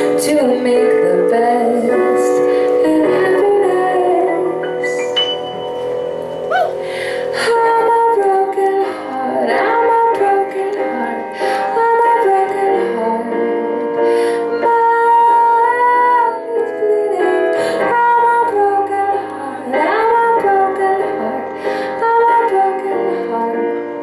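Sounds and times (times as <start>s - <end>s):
woman singing into microphone: 0.0s - 5.2s, 6.5s - 13.5s, 14.5s - 24.0s
instrumental backing: 0.0s - 24.0s.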